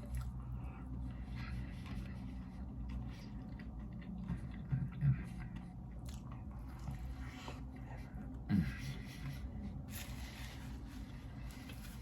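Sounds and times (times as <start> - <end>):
chewing burger: 0.0 - 12.0
low steady hum: 0.0 - 12.0.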